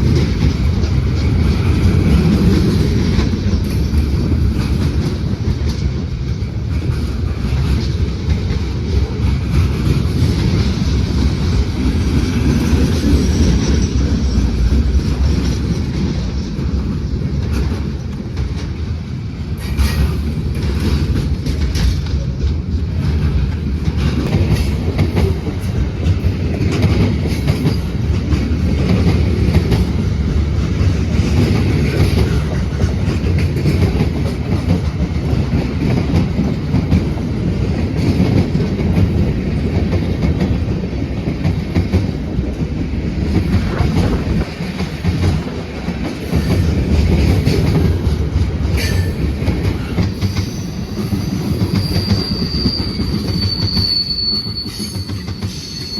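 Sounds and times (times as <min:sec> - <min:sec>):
clickety-clack over rail joints: 0:00.0 - 0:55.9
train wheels rumbling on rails: 0:00.0 - 0:55.9.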